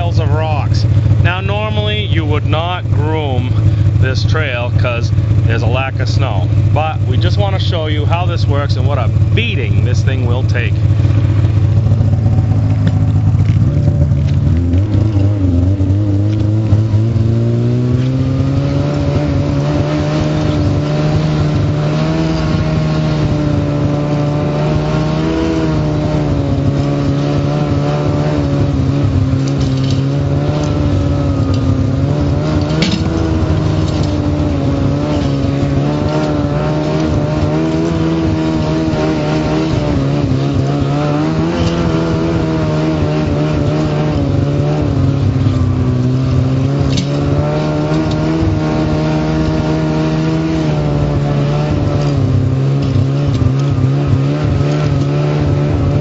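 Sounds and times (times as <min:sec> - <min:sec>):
vehicle engine under load: 0:00.0 - 0:56.0.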